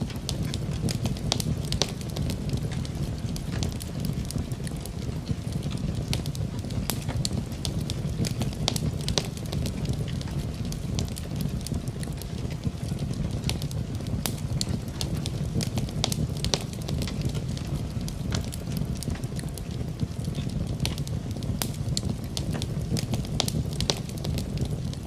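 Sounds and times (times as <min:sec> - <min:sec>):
rain: 0:00.0 - 0:25.0
wood fire crackling: 0:00.0 - 0:25.0.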